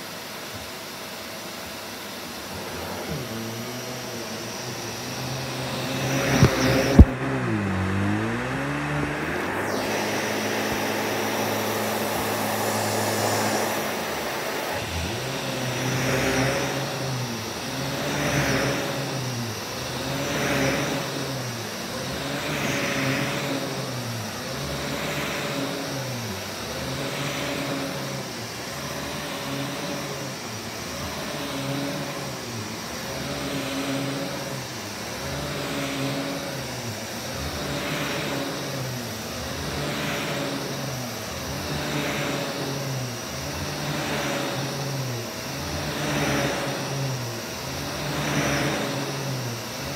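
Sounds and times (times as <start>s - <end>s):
upright vacuum cleaner running: 0.0s - 49.9s.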